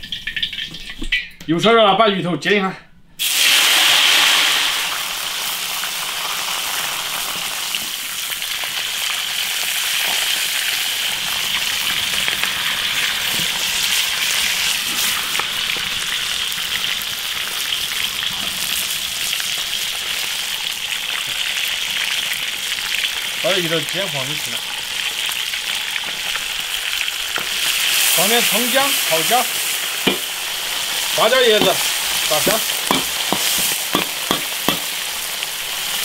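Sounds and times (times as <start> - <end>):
fish frying in hot oil: 0.0 - 1.2, 3.2 - 36.0.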